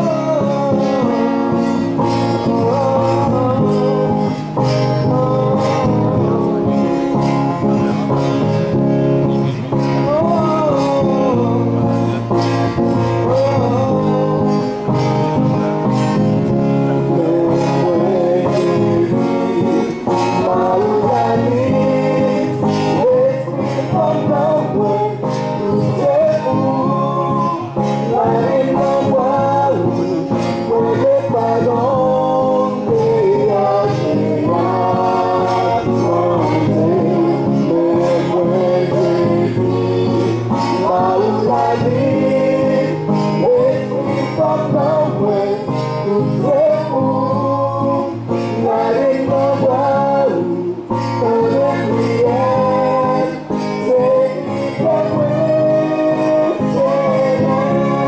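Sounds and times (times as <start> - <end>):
instrumental accompaniment: 0.0 - 58.0
vocal trio singing gospel: 0.0 - 58.0.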